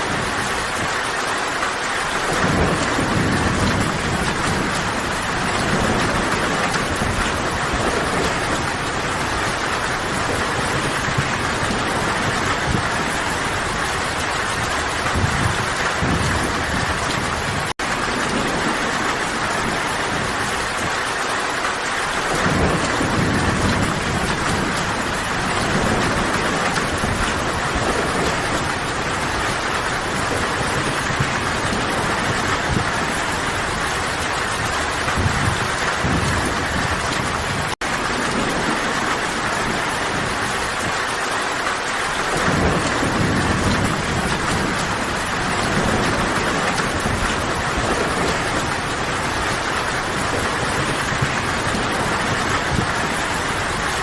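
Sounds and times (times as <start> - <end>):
steady rain in forest: 0.0 - 54.0.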